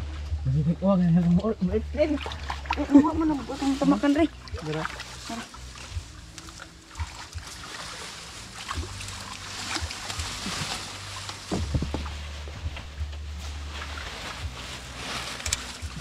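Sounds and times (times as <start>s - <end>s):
low rumble: 0.0s - 16.0s
creek water sloshing and splashing: 1.1s - 16.0s.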